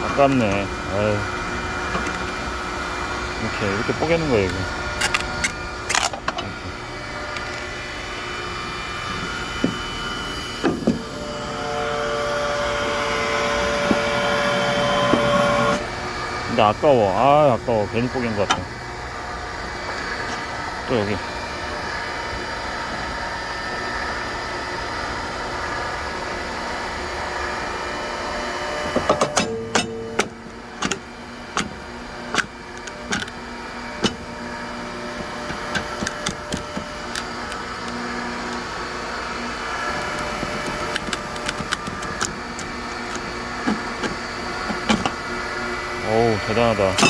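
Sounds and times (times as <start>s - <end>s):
log splitter pump humming: 0.0s - 47.0s.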